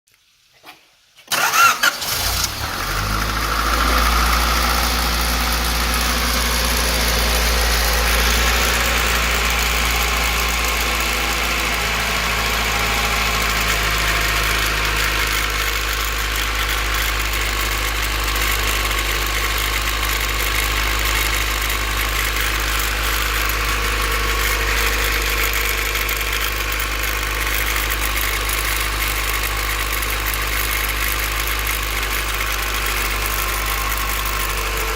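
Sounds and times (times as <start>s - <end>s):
engine cranking and starting: 1.2s - 34.9s
engine idling with rattle: 1.3s - 34.9s.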